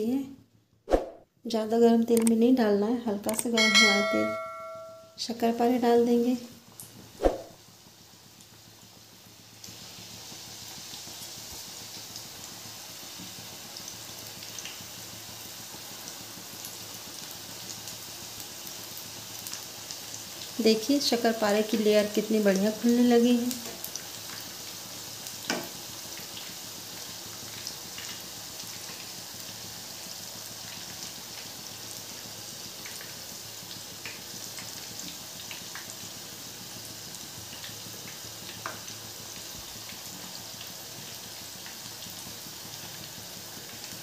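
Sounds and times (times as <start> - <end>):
dough deep-frying in oil: 2.0 - 44.0.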